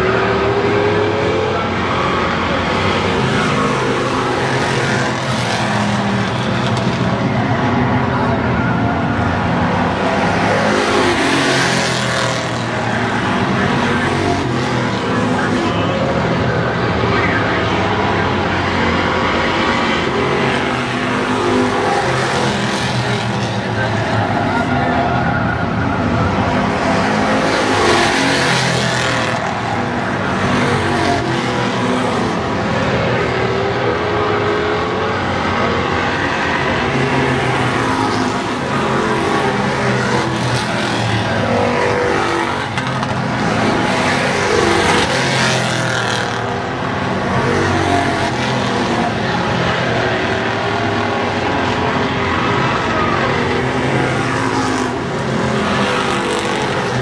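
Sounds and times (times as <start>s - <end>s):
race car engines passing: 0.0s - 57.0s.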